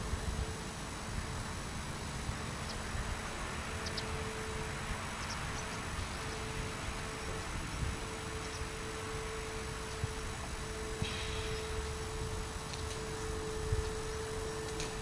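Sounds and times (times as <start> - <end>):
rumbling hiss: 0.0 - 15.0.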